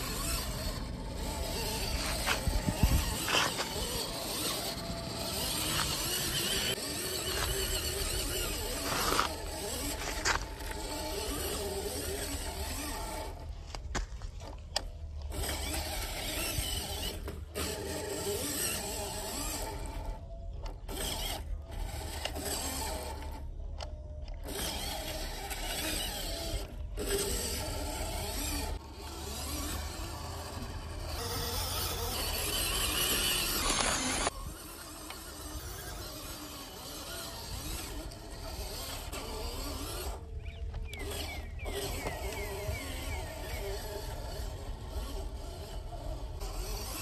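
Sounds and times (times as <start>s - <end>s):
toy car electric motor whirring: 0.0s - 47.0s.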